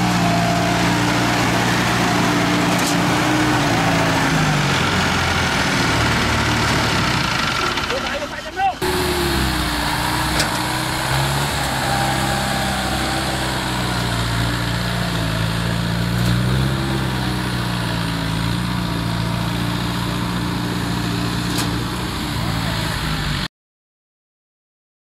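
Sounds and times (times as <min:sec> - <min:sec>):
harvester engine running: 0:00.0 - 0:23.5.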